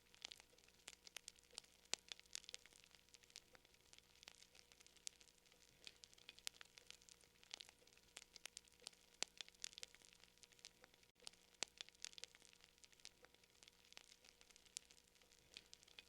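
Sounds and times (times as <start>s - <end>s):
faint fire crackling: 0.0s - 16.0s.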